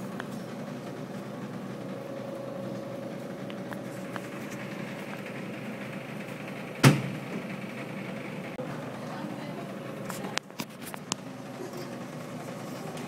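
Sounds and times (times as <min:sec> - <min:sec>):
vending machine humming: 0:00.0 - 0:13.0.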